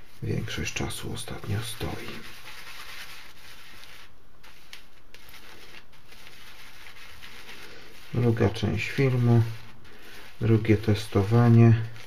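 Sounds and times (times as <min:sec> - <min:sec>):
shaving brush swishing lather: 0:00.0 - 0:12.0.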